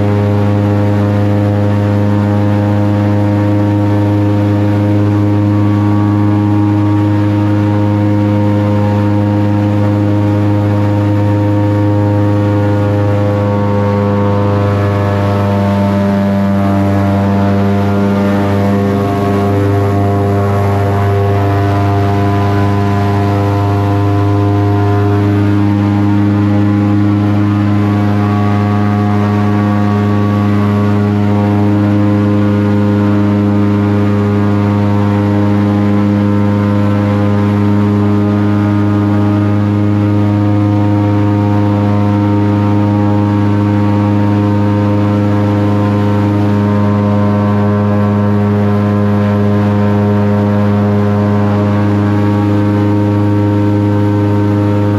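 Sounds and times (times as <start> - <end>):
airboat engine and propeller: 0.0 - 54.9.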